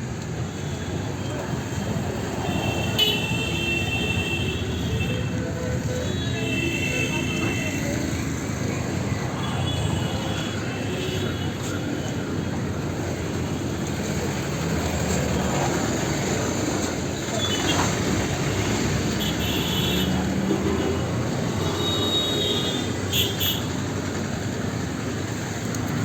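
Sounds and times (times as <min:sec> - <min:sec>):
rumble of vehicles: 0:00.0 - 0:26.0.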